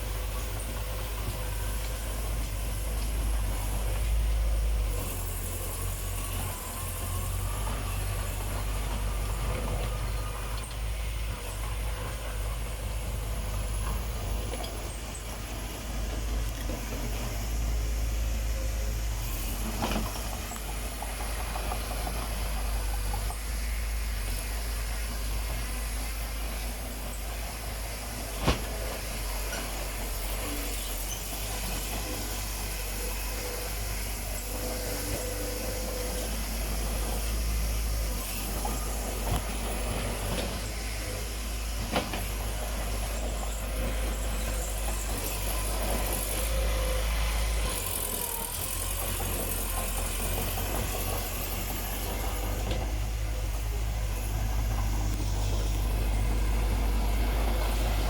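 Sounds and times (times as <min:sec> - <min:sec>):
heavy machinery engine rumbling: 0:00.0 - 0:58.0.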